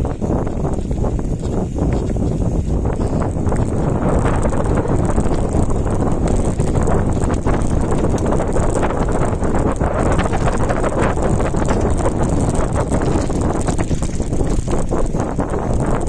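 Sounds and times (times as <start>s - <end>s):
bike clattering over stony dirt: 0.0s - 16.0s
wind buffeting the microphone: 0.0s - 16.0s.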